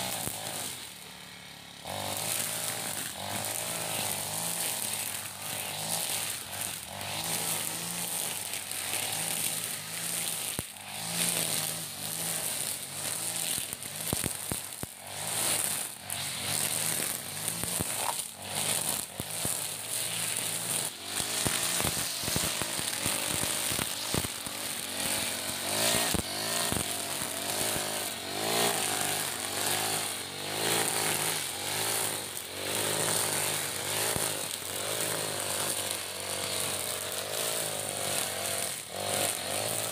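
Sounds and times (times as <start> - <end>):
trimmer line ticking on stems: 0.0 - 1.1, 1.8 - 39.9
brush cutter engine running: 0.0 - 39.9.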